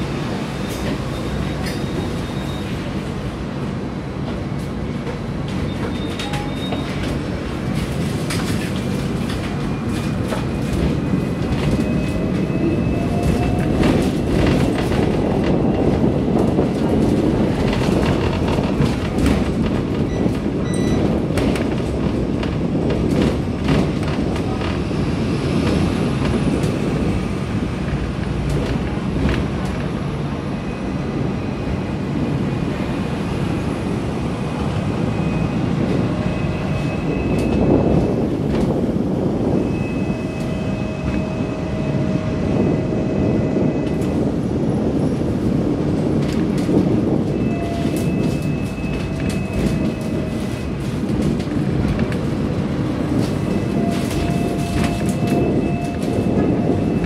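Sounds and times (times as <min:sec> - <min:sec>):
wheels clattering on rails: 0:00.0 - 0:30.4, 0:35.6 - 0:57.0
tram wheels and motor rumbling: 0:00.0 - 0:57.0.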